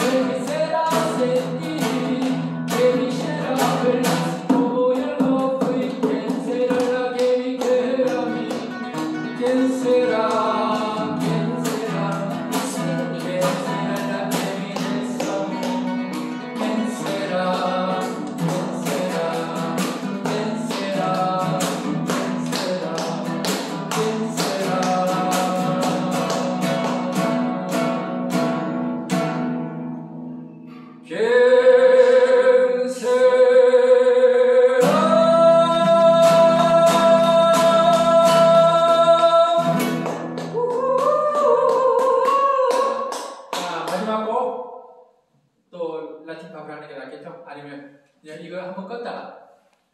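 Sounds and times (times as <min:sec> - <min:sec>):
acoustic guitar strumming: 0:00.0 - 0:40.8.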